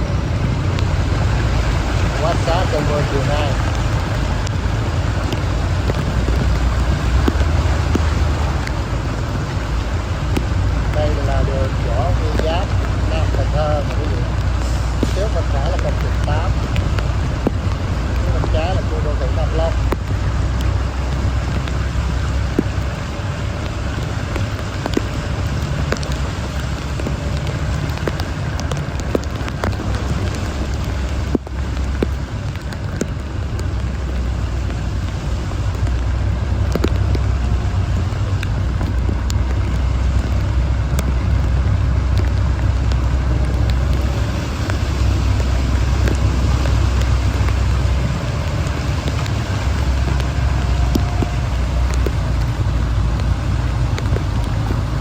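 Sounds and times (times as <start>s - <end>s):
rain hiss: 0.0s - 55.0s
raindrops ticking: 0.0s - 55.0s
road and engine rumble: 0.0s - 55.0s.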